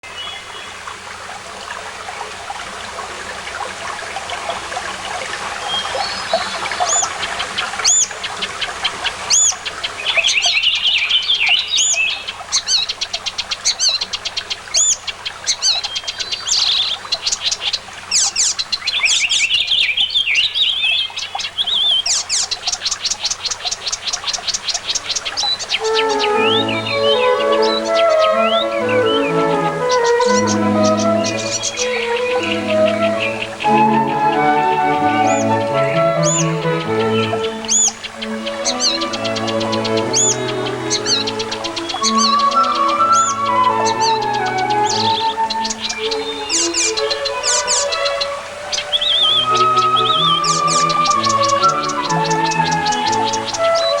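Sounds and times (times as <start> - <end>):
small birds chirping: 4.5 - 54.0
buzzy bird calls: 5.6 - 54.0.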